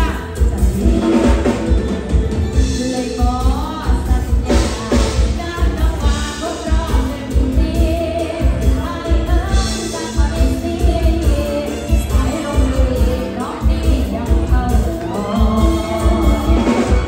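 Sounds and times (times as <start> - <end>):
bass: 0.0 - 17.0
electric guitars: 0.0 - 17.0
woman singing: 0.0 - 17.0.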